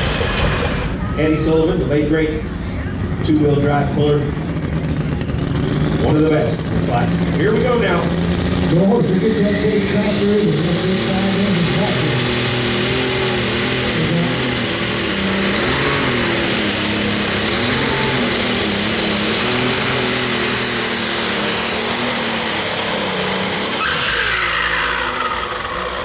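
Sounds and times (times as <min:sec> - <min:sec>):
tractor diesel engine at full power: 0:00.0 - 0:26.0.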